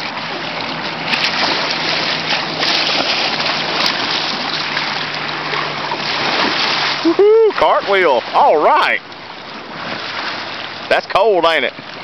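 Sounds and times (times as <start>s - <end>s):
paddle splashes: 0.0s - 12.0s
rushing water: 0.0s - 12.0s.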